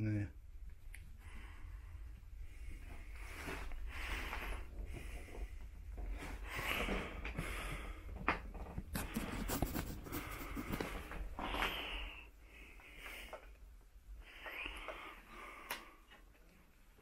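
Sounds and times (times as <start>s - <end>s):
person breathing heavily: 1.2s - 8.2s, 8.9s - 16.2s.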